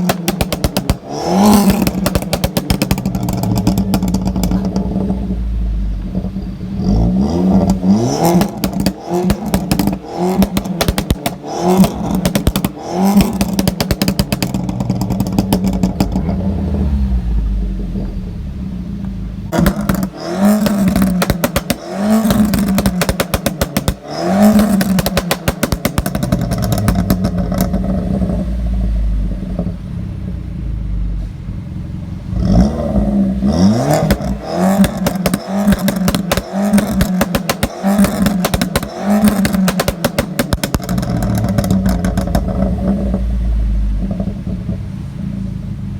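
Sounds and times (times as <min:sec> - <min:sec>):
car exhaust revving: 0:00.0 - 0:45.9
exhaust pops and crackles: 0:00.0 - 0:45.9.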